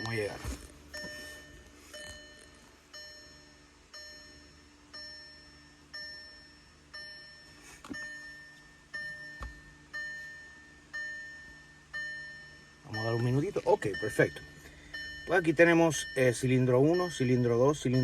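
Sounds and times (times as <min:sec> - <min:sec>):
car warning chime dinging: 0:00.0 - 0:18.0.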